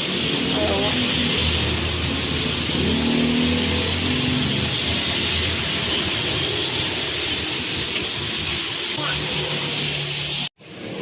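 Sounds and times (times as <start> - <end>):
motor running: 0.0 - 10.4.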